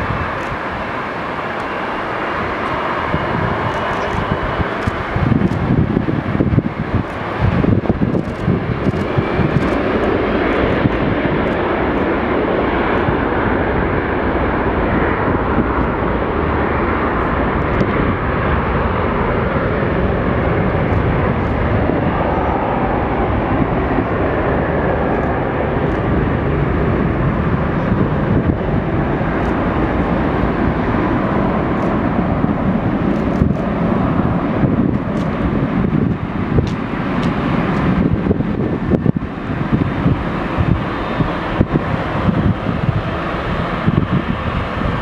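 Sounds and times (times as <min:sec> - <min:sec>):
jet engines on takeoff roll: 0:00.0 - 0:45.0.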